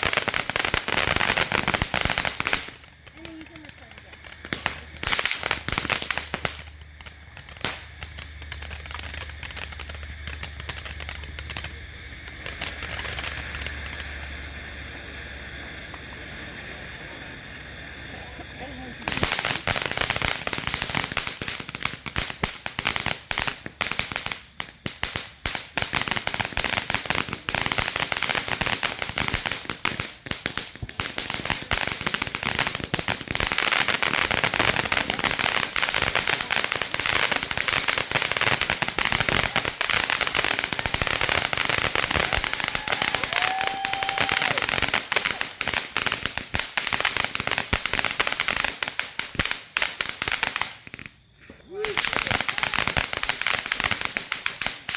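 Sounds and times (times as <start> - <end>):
fireworks crackling and popping: 0.0 - 54.9.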